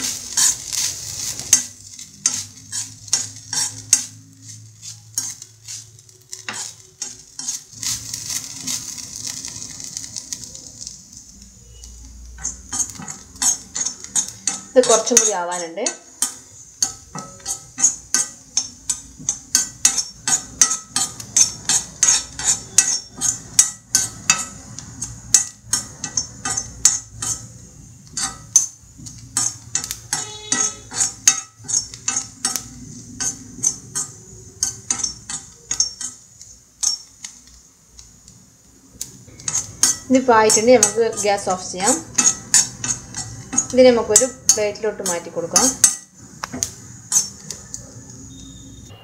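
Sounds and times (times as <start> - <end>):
metal spatula scraping iron pan: 0.0 - 10.9, 11.7 - 37.6, 39.0 - 48.6
coconut frying in oil: 0.0 - 49.0.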